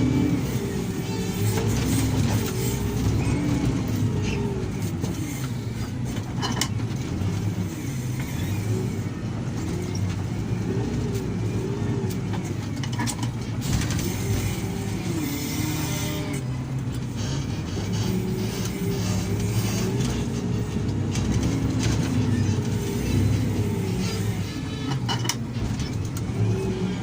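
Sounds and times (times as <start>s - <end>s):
heavy diesel engine revving: 0.0s - 27.0s.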